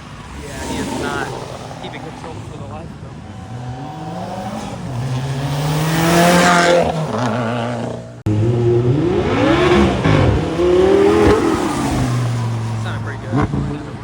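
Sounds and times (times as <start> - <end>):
car engine accelerating past: 0.0 - 14.0
engine revving: 0.0 - 14.0.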